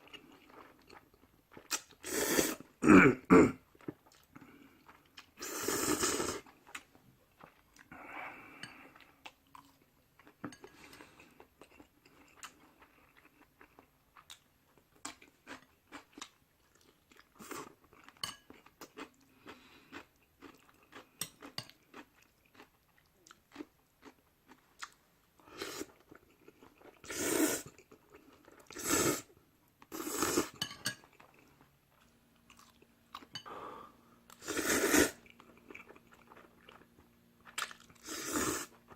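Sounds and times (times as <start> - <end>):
person chewing noodles: 0.0 - 2.7, 3.7 - 38.9.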